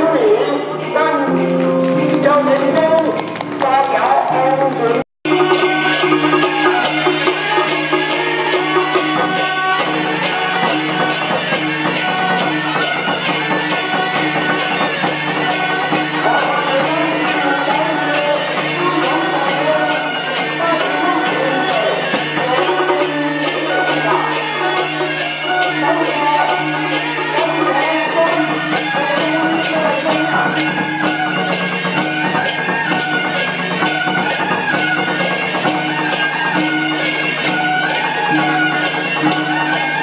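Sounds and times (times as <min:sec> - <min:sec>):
cymbals clashing: 0:00.0 - 0:04.5, 0:05.3 - 0:40.0.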